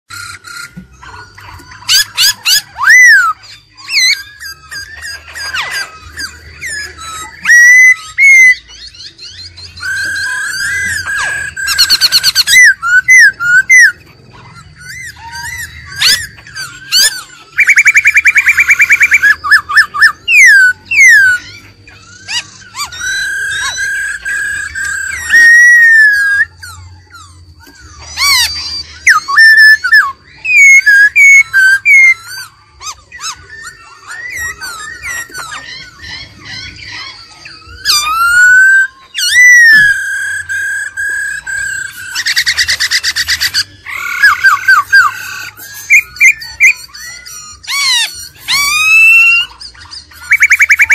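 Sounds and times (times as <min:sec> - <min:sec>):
bird singing whistled song: 0:00.1 - 0:50.9
bird trill: 0:00.1 - 0:50.9.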